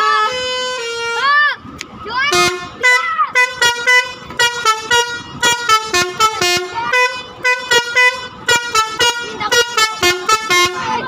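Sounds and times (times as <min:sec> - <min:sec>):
musical air horn toots: 0:00.0 - 0:01.4, 0:02.3 - 0:11.0.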